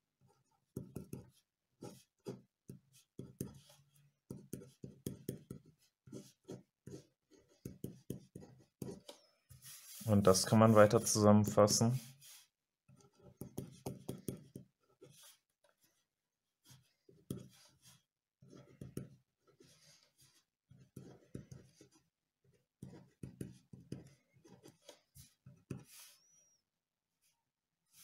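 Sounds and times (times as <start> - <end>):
pen scratching on paper: 0.2 - 11.2, 12.0 - 26.6.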